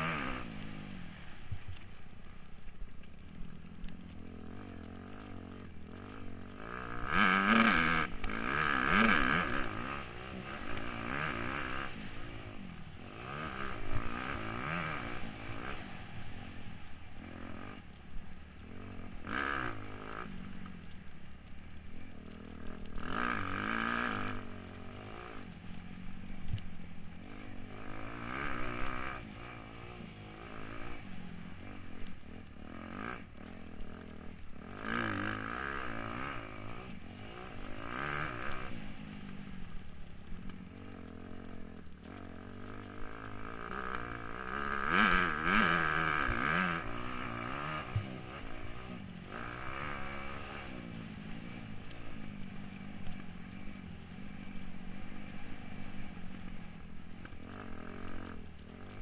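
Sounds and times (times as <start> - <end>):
motocross bike engine revving: 0.0 - 1.5, 3.1 - 59.0.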